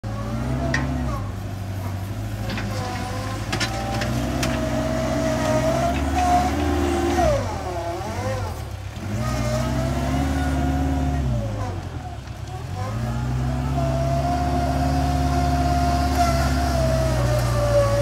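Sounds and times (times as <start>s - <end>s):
wheel loader engine under load: 0.0s - 18.0s.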